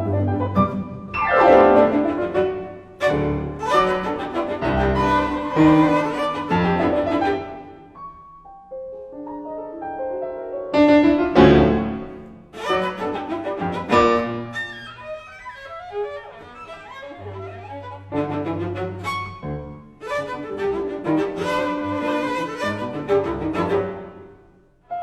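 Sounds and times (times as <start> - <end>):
cello and piano playing: 0.0 - 25.0.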